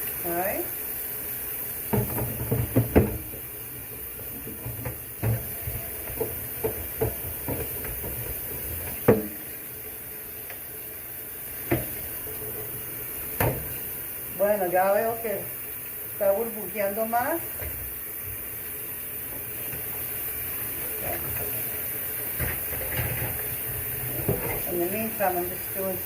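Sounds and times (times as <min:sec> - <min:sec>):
electric kettle heating water: 0:00.0 - 0:26.0.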